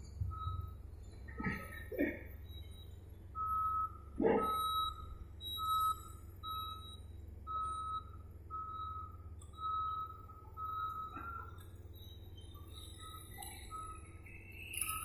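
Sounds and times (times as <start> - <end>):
low engine rumble: 0.0 - 15.0
reversing alarm beeping: 0.0 - 15.0.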